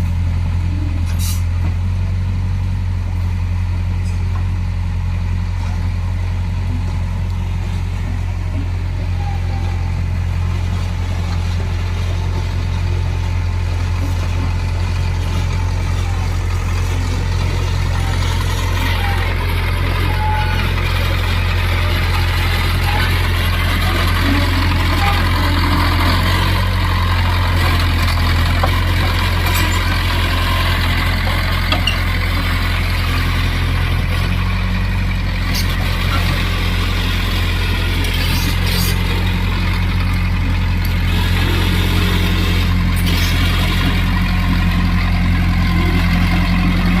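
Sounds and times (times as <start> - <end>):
bulldozer diesel engine drone: 0.0 - 47.0.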